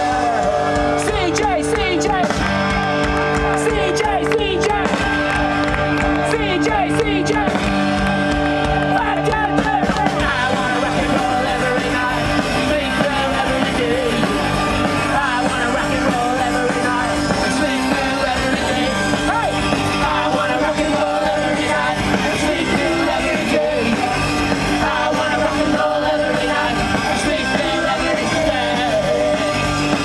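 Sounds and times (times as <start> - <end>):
person singing: 0.0 - 5.4, 6.0 - 30.0
punk rock band playing: 0.0 - 30.0.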